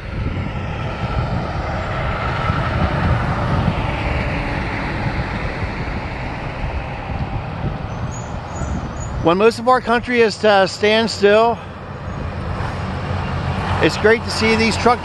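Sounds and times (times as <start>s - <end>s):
truck driving past: 0.0s - 15.0s.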